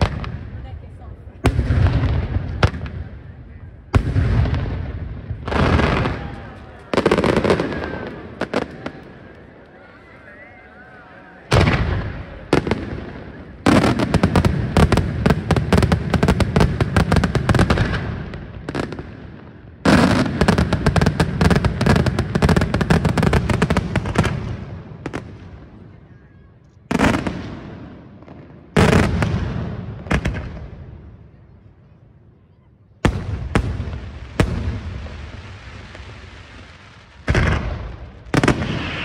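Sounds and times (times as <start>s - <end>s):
loud firework bangs: 0.0s - 9.3s, 11.5s - 25.8s, 26.9s - 31.2s, 33.0s - 39.0s
fireworks bangs and crackles: 0.0s - 31.8s, 32.9s - 39.0s.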